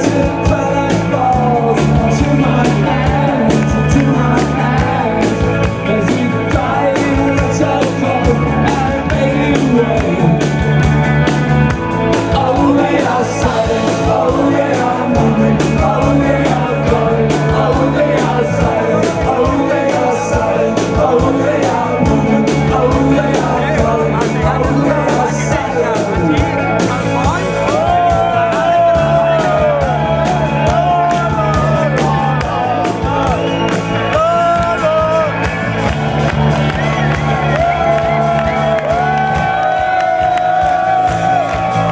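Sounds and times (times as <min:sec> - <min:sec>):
man singing: 0:00.0 - 0:10.9, 0:12.0 - 0:35.5
bass guitar: 0:00.0 - 0:41.9
drums: 0:00.0 - 0:41.9
electric guitar: 0:00.0 - 0:41.9.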